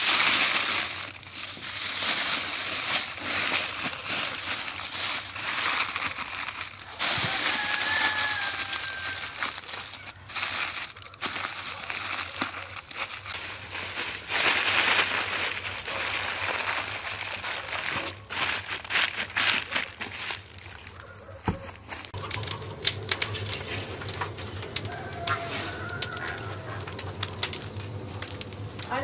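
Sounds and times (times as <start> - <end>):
aluminium foil crinkling: 0.0 - 29.0
low oven hum: 0.0 - 29.0.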